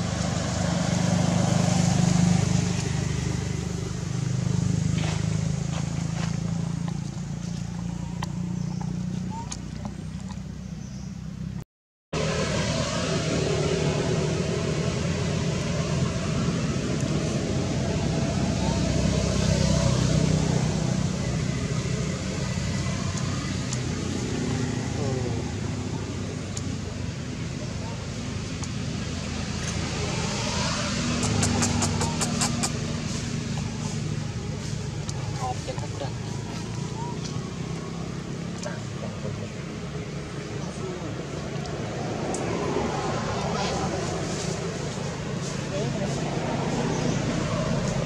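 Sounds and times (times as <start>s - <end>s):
motor engine running: 0.0s - 11.6s, 12.2s - 48.0s.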